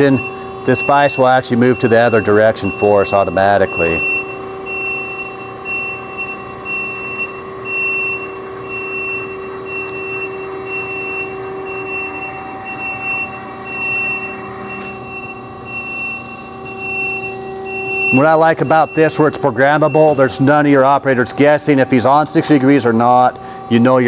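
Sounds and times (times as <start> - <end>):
high electronic warning beep: 0.0 - 24.0
motor and hydraulic hum: 0.0 - 24.0.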